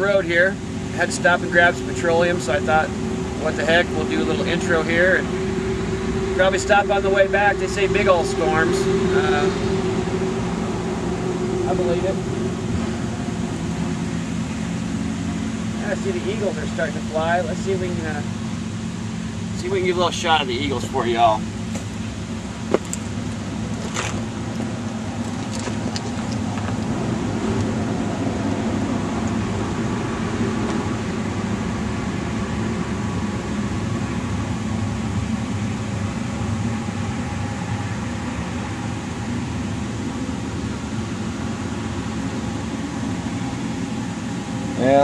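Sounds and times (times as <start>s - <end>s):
vehicle hum and rush: 0.0s - 45.0s.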